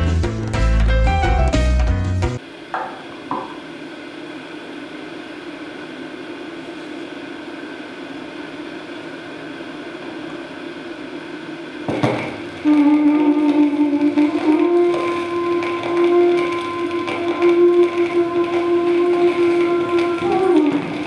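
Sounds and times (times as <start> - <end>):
low hum with hiss: 0.0 - 21.0.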